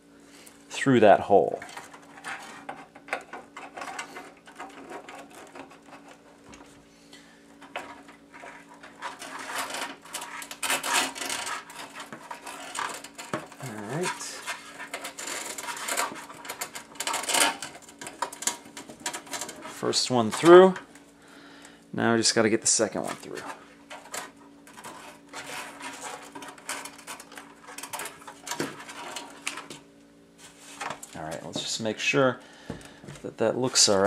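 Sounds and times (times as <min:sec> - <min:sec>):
cables rustling and scraping: 0:00.4 - 0:21.2, 0:22.2 - 0:29.8, 0:30.4 - 0:34.0.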